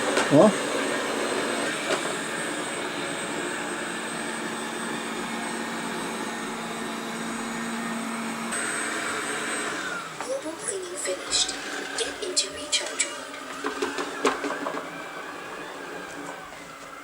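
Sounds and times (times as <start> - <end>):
robot vacuum cleaner whirring: 0.0 - 17.0.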